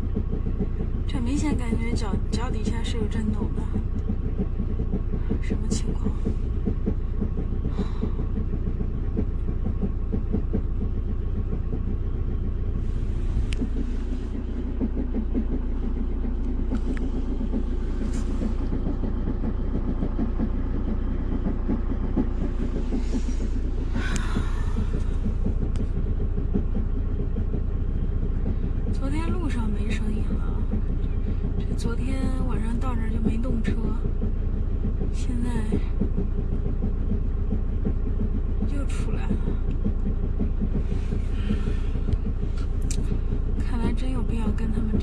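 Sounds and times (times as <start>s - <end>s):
engine idling with fast clatter: 0.0s - 45.0s.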